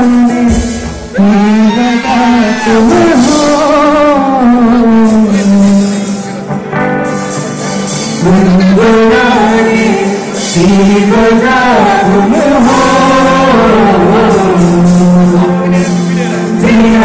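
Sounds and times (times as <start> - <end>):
person singing long sliding notes: 0.0 - 6.3, 8.2 - 17.0
live band with acoustic guitar: 0.0 - 17.0.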